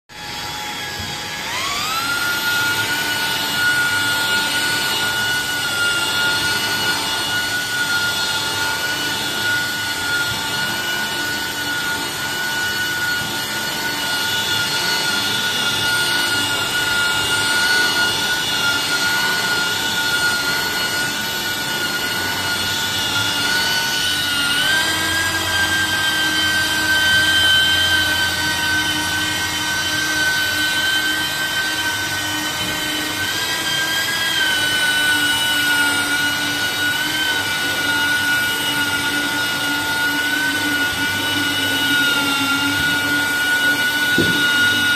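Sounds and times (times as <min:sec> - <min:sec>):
car polisher motor whine: 0:00.1 - 0:44.9.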